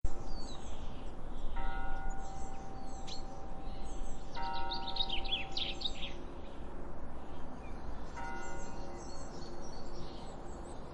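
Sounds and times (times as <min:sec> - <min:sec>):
small birds chirping: 0:00.1 - 0:10.9.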